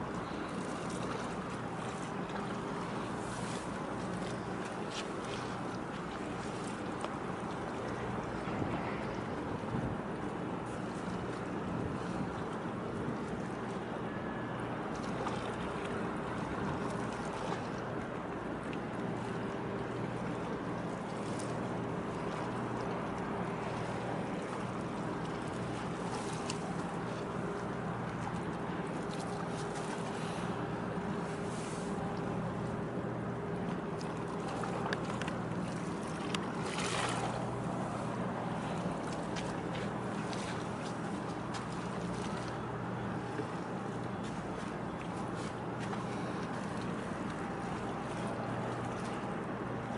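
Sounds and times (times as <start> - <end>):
ship engines droning: 0.0 - 49.9
water noise: 0.0 - 49.9
wind: 0.0 - 49.9.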